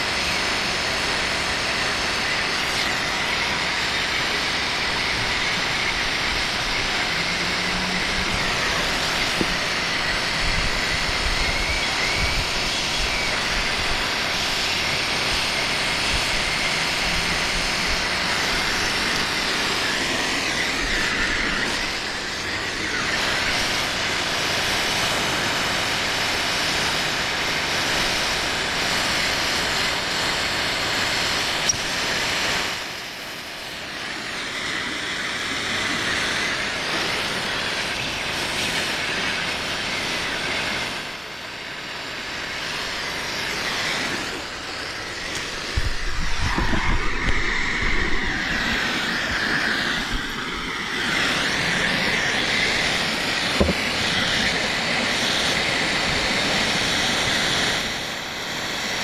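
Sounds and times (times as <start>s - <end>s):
gas torch hissing: 0.0s - 59.0s.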